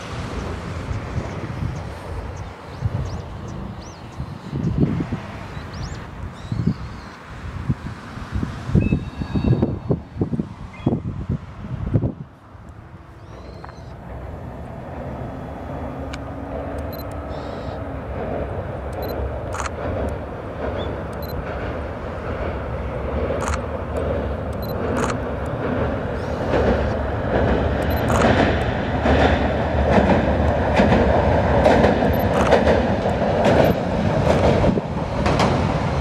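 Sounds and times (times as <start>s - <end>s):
railcar rumbling over bridge: 0.0s - 36.0s.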